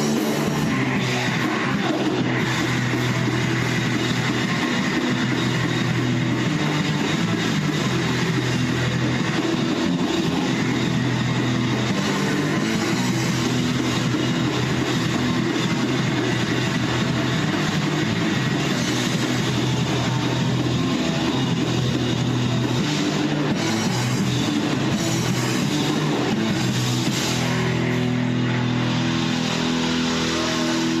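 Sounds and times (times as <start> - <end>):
distorted electric guitar: 0.0 - 31.0
drum kit: 0.0 - 31.0.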